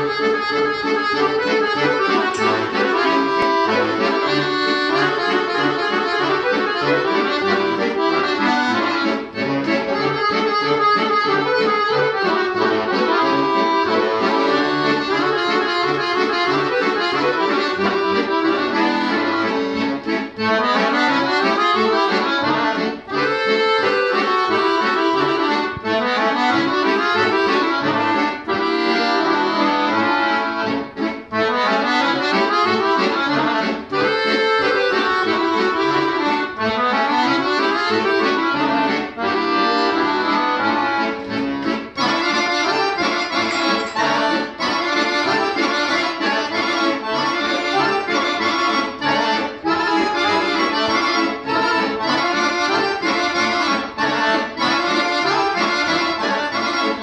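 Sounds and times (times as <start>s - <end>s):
accordions playing fast folk dance: 0.0s - 57.0s.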